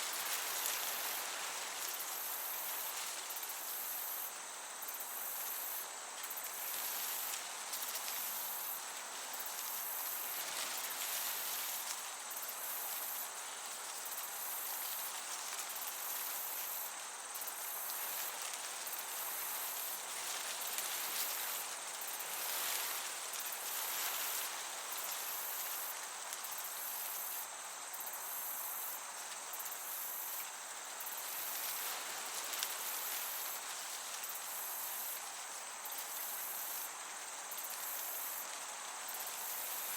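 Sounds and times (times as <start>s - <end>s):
crickets chirping: 0.0s - 39.9s
gentle breeze hiss: 0.0s - 39.9s.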